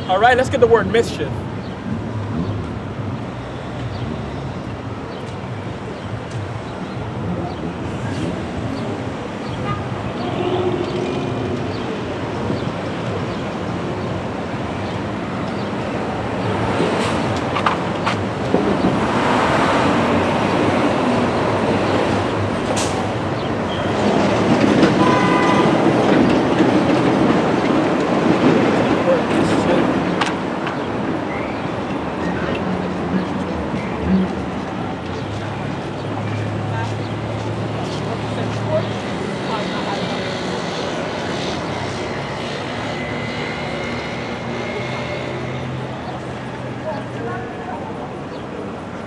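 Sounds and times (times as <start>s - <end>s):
rumble of passing vehicles: 0.0s - 49.0s.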